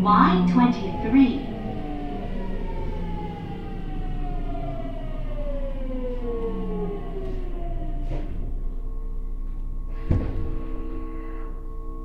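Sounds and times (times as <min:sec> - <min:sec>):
train motors whining: 0:00.0 - 0:12.0.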